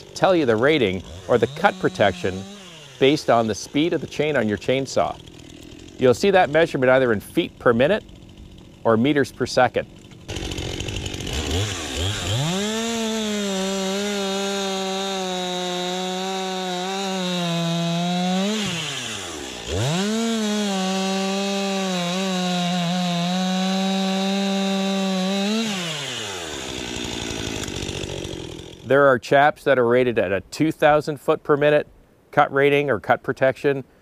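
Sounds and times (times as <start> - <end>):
chainsaw cutting log: 0.0 - 28.9.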